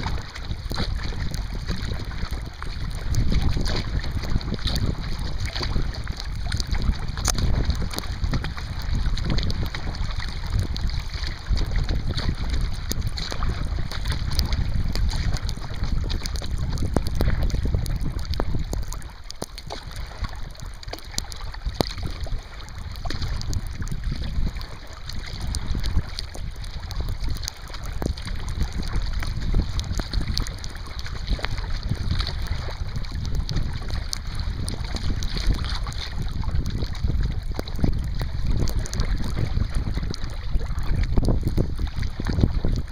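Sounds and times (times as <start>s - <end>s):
water slapping kayak hull: 0.0s - 42.9s
wind buffeting microphone: 0.0s - 42.9s.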